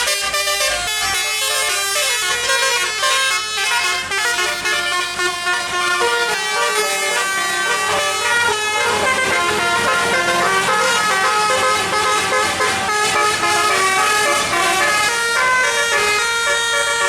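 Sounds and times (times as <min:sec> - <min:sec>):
musical air horn playing tune: 0:00.0 - 0:17.0.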